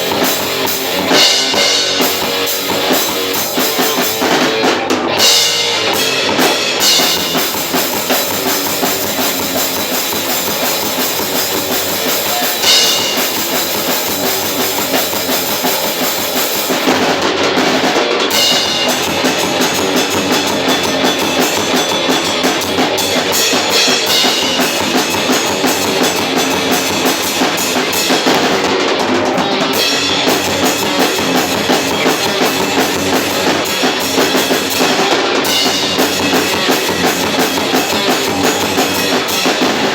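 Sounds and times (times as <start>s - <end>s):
drum kit playing: 0.0s - 39.9s
electric guitar: 0.0s - 39.9s.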